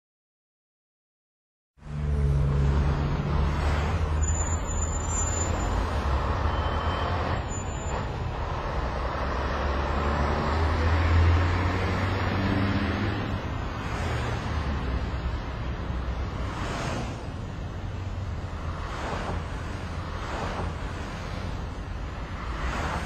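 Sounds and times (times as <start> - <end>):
traffic rumble: 1.8 - 23.0.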